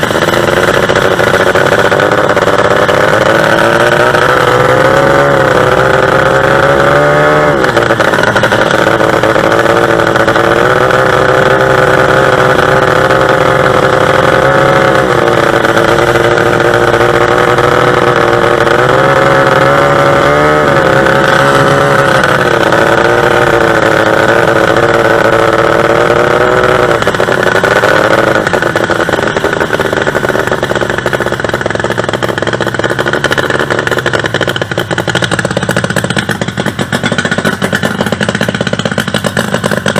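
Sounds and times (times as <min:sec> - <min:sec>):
racing boat engine at high revs: 0:00.0 - 0:39.9.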